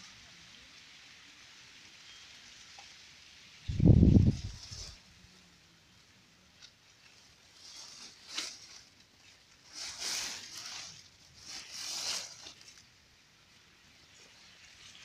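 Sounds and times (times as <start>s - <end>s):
leaves and dry stems rustling: 0.0s - 15.0s.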